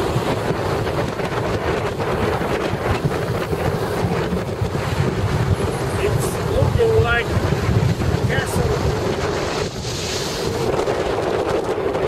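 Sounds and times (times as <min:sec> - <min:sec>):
car road noise: 0:00.0 - 0:12.0
wind buffeting microphone: 0:00.0 - 0:12.0.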